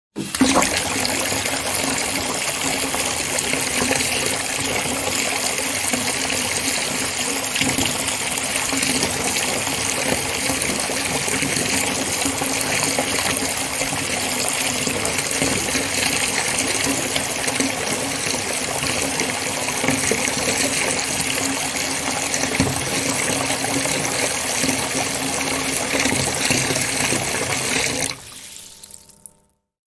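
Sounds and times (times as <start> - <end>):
water pouring and splashing: 0.2 - 29.3.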